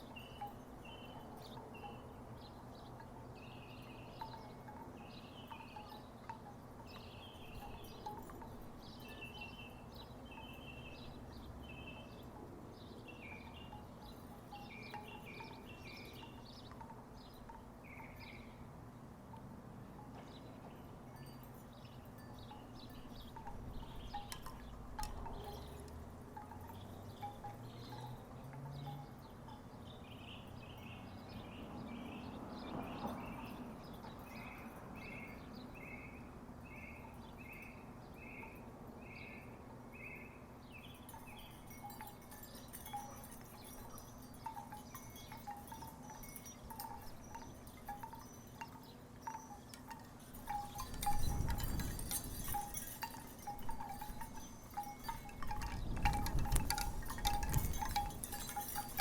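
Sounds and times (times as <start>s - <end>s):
wooden wind chimes clunking: 0.0s - 36.1s, 40.8s - 59.0s.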